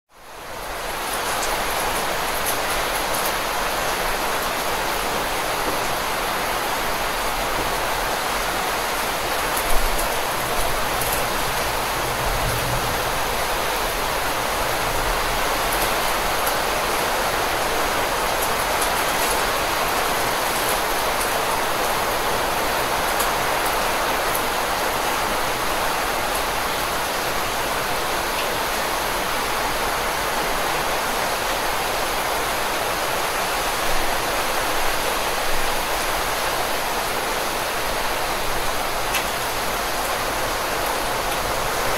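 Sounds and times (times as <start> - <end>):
steady rainfall: 0.1 - 41.9.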